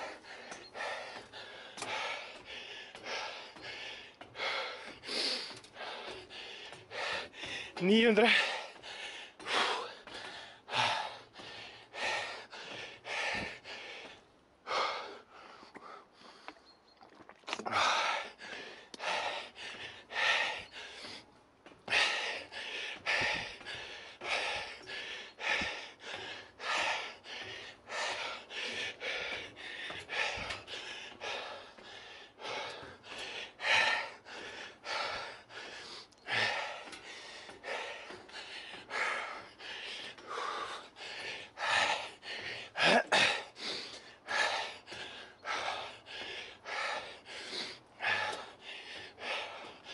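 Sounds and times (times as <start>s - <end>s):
man panting heavily: 0.0s - 16.6s, 17.7s - 49.9s.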